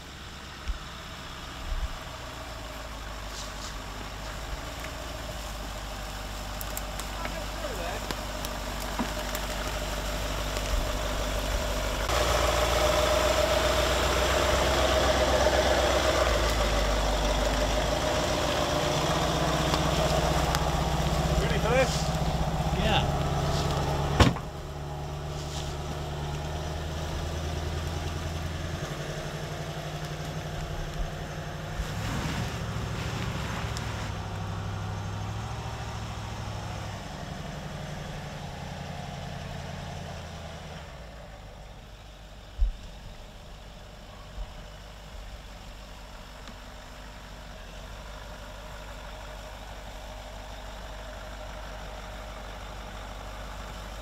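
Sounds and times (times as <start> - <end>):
diesel engine running at low revs: 0.0 - 54.0.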